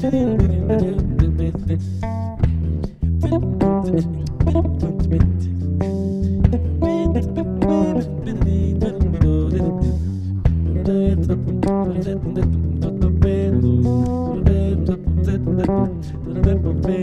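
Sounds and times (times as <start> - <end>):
low bass groove: 0.0 - 17.0
plucked bass melody notes: 0.0 - 17.0.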